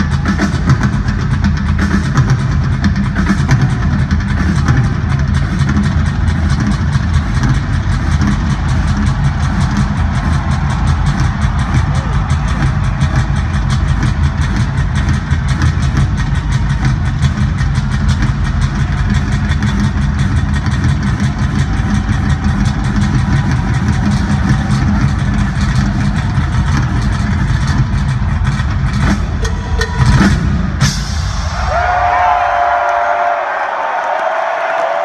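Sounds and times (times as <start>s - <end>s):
double bass drum roll: 0.0s - 34.0s.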